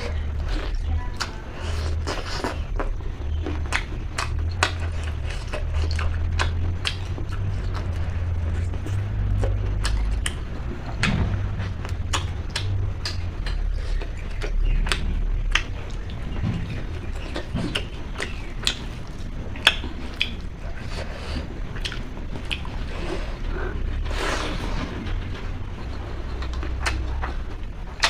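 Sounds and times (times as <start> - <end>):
person chewing food: 0.0 - 28.0
steady low hum: 0.0 - 28.0.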